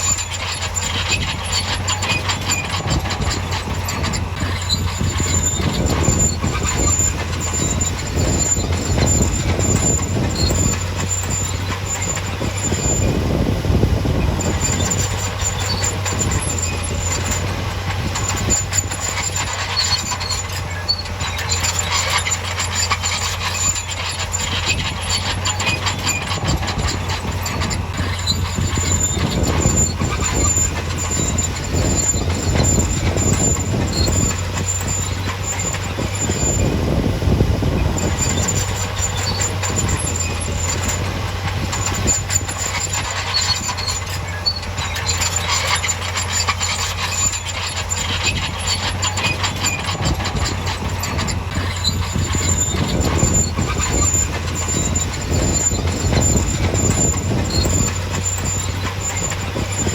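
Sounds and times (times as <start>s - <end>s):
crawler tracks clanking and squealing: 0.0s - 59.9s
low diesel engine drone: 0.0s - 59.9s.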